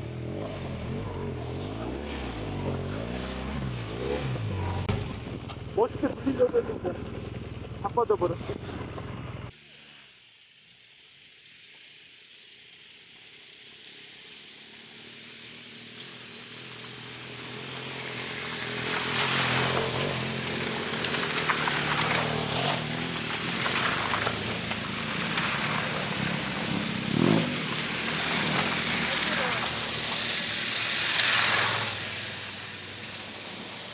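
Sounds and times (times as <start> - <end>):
motorcycle engine running: 0.0 - 9.6, 14.0 - 33.9
wind and road noise: 0.0 - 9.6, 13.5 - 33.9.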